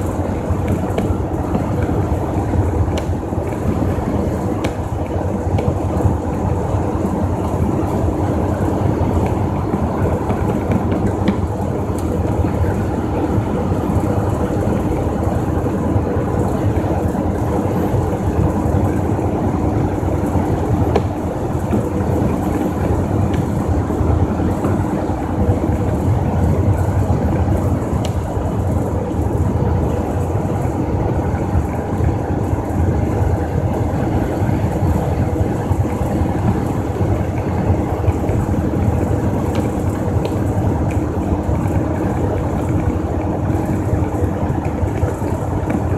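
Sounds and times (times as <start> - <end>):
diesel truck engine drone: 0.0 - 45.9
tyre and road noise: 0.0 - 45.9.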